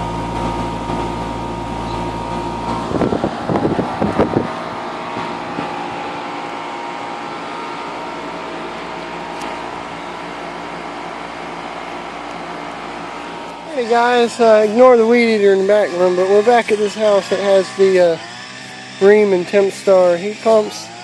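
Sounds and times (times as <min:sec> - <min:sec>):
string trimmer engine running: 0:00.0 - 0:21.0.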